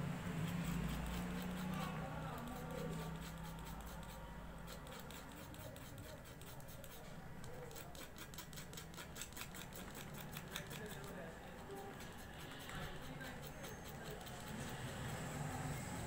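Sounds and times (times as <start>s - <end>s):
hand tool scraping circuit board: 0.4s - 16.0s.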